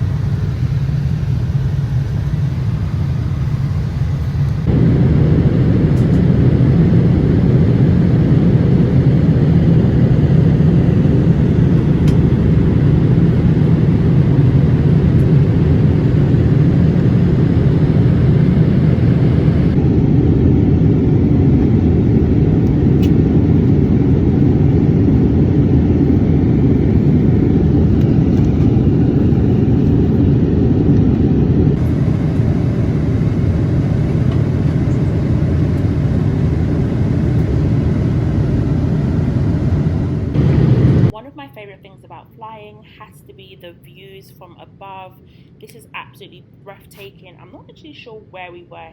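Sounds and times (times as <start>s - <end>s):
jet engine rumble in cabin: 0.0s - 48.9s.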